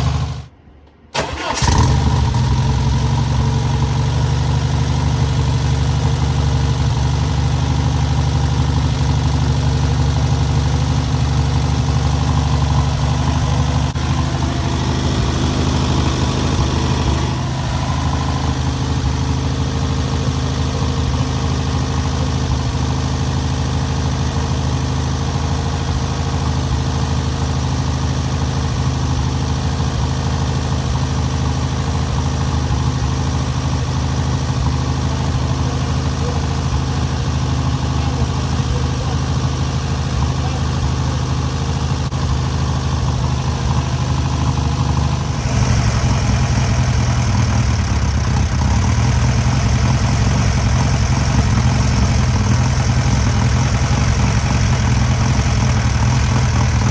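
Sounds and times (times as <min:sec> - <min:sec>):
air-cooled engine running: 0:00.0 - 0:00.5, 0:01.1 - 0:56.9.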